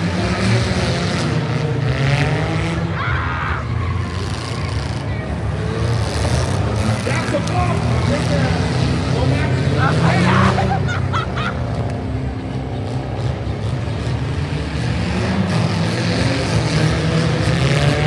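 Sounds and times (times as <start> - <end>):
car engines running: 0.0 - 18.0.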